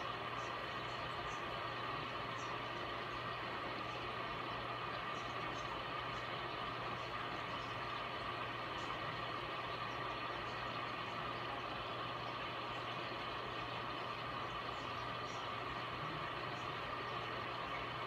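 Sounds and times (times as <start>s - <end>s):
aquarium equipment humming: 0.0s - 18.0s.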